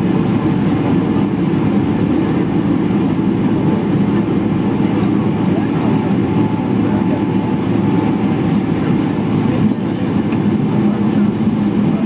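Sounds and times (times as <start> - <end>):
aircraft engines low rumble: 0.0 - 12.0.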